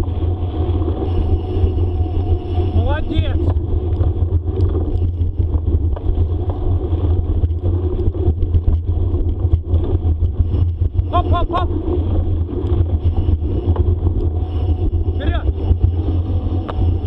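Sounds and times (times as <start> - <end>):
bicycle rolling on trail: 0.0 - 17.0
wind rumble: 0.0 - 17.0.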